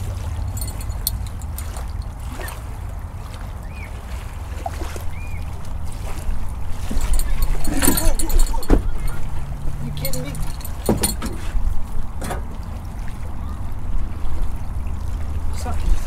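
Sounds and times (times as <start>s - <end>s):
sea water washing: 0.0s - 16.0s.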